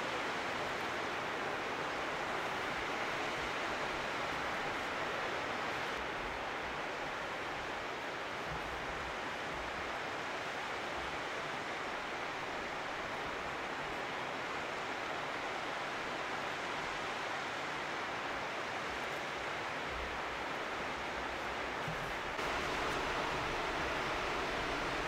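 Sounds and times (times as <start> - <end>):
flowing mountain water: 0.0 - 25.0.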